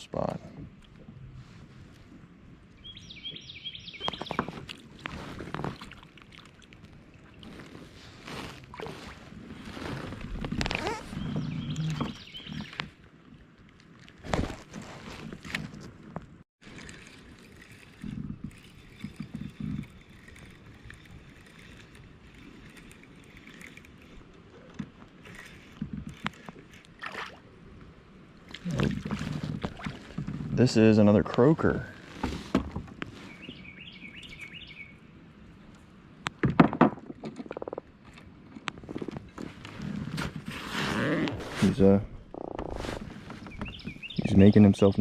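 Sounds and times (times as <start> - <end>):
water lapping against a hull: 4.0 - 35.9, 37.2 - 44.9.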